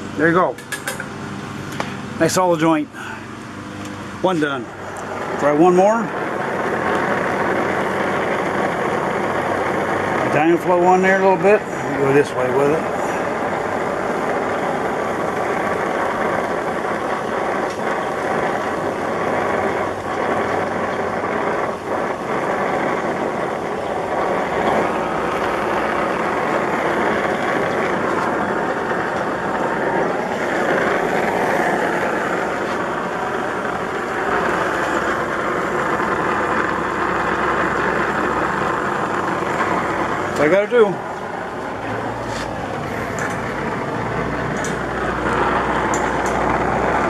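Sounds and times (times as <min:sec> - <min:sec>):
torch hissing: 0:00.0 - 0:47.0.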